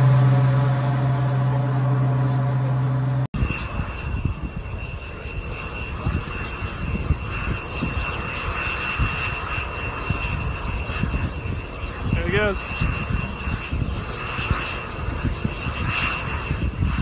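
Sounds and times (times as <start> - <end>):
distant propeller airplane engine: 0.0 - 17.0
gusty low rumble: 0.0 - 17.0.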